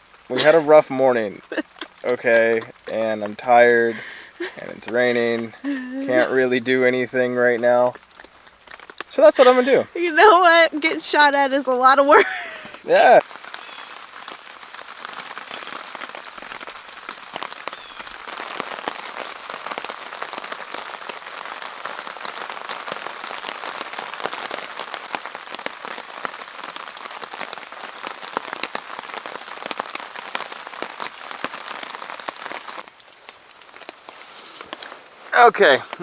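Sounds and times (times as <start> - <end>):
rain drops ticking on tarp: 0.0 - 36.0.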